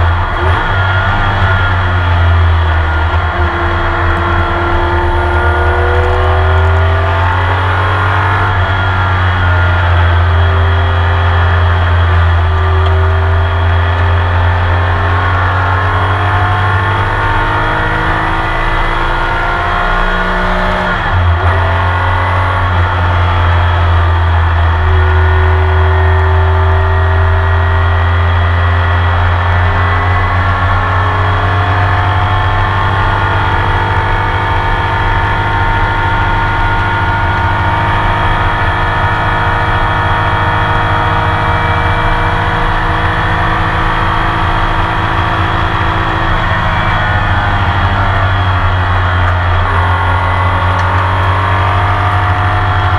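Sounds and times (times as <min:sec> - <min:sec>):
racing car engine pulling hard: 0:00.0 - 0:52.9.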